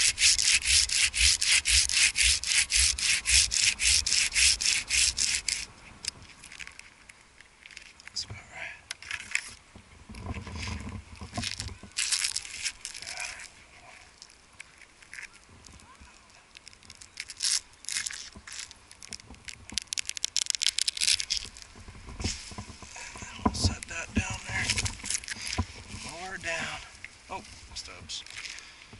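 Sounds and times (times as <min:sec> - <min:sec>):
pine boughs rustling and scraping: 0:00.0 - 0:28.9.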